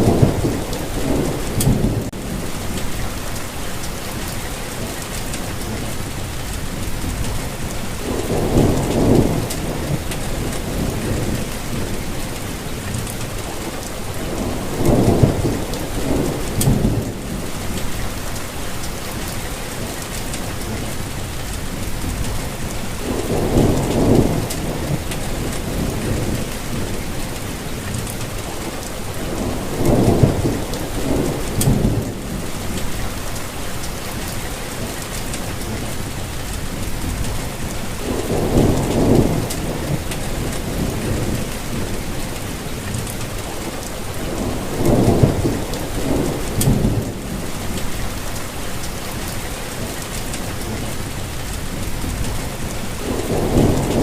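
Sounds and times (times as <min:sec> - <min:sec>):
rain pattering on foliage: 0:00.0 - 0:54.0.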